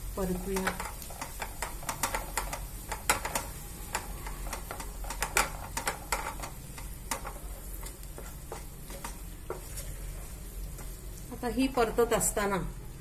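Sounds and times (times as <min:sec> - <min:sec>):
faint sizzle of frying: 0:00.0 - 0:13.0
spatula scraping in pan: 0:00.2 - 0:11.4.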